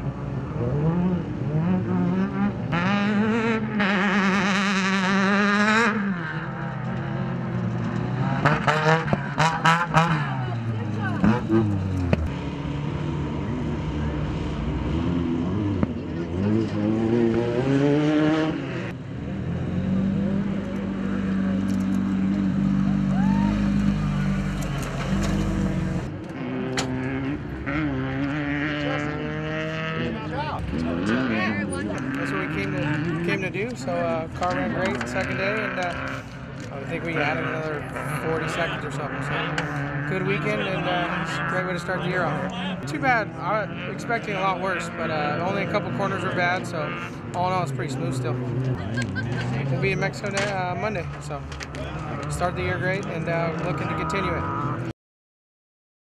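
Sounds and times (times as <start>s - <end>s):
race vehicle engine running hard: 0.0s - 54.9s.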